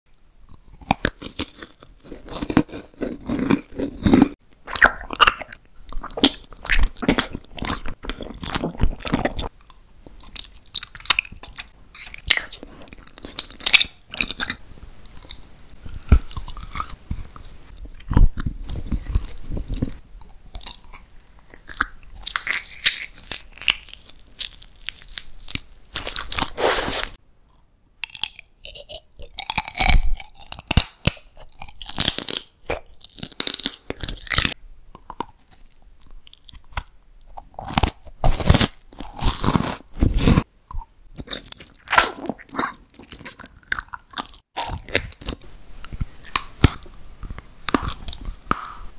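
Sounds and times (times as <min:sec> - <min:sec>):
crunchy chewing: 0:00.4 - 0:27.2, 0:28.0 - 0:48.9.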